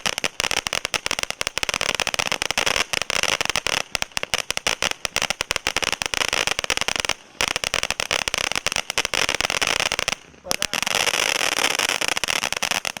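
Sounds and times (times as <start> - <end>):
firework fountain hissing and crackling: 0.0 - 13.0.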